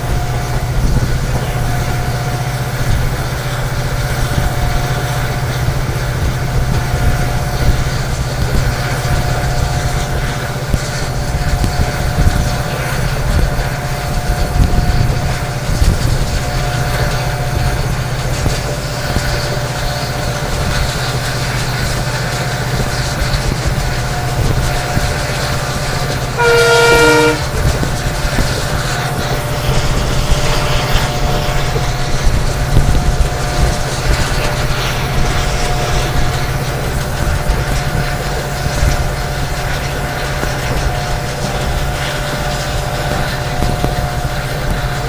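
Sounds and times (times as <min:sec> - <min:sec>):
diesel locomotive engine humming: 0:00.0 - 0:45.0
locomotive horn: 0:00.0 - 0:45.0
train wheels clattering on rails: 0:00.0 - 0:45.0.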